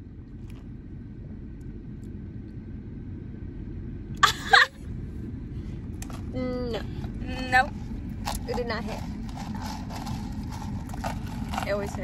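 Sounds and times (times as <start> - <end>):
road rumble inside car: 0.0 - 12.0.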